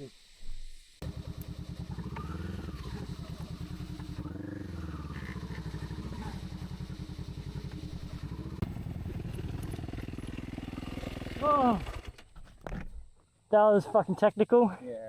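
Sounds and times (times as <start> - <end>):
motorcycle engine at low revs: 0.5 - 13.2.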